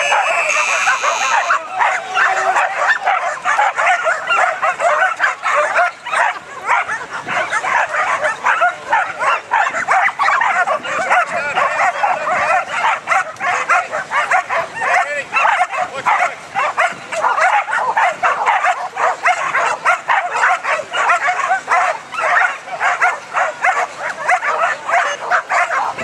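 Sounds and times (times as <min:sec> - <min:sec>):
dogs barking and yipping: 0:00.0 - 0:26.0.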